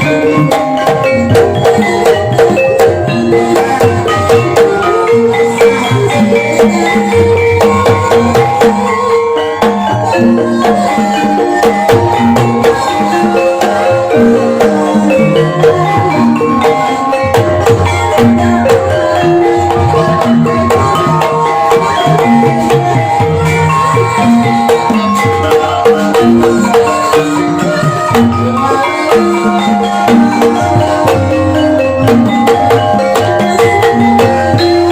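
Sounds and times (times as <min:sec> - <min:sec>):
drum strokes: 0:00.0 - 0:34.9
struck pitched percussion melody: 0:00.0 - 0:34.9.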